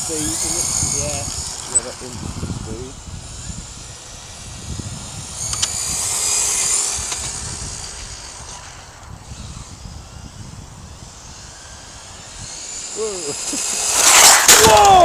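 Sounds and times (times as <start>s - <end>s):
toy car motor whining: 0.0s - 15.0s
wind on microphone: 0.0s - 15.0s.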